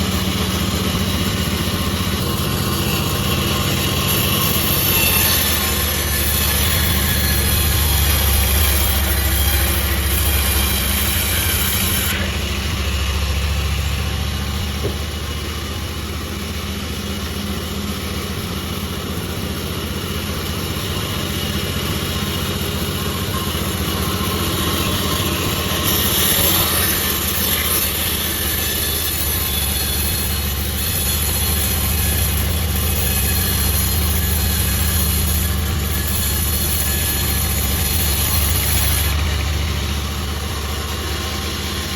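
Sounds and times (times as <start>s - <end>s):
sawmill machinery engine drone: 0.0s - 41.9s.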